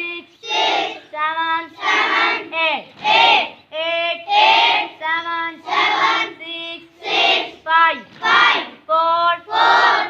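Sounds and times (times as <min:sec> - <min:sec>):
children chanting counts: 0:00.0 - 0:10.0.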